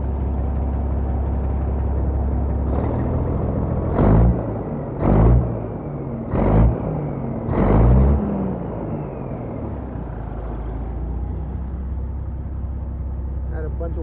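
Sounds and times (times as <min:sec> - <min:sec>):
diesel truck engine revving: 0:00.0 - 0:14.0
truck engine idling: 0:00.0 - 0:14.0.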